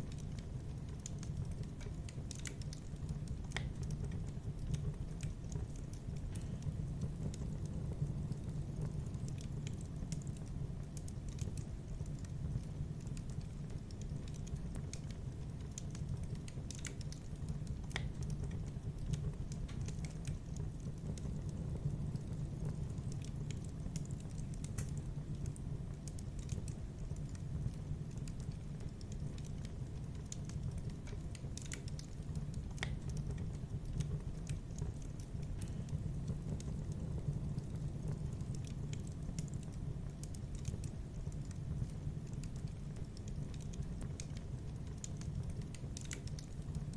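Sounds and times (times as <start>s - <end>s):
fire crackling and popping: 0.0s - 46.9s
low rumble of burning: 0.0s - 46.9s.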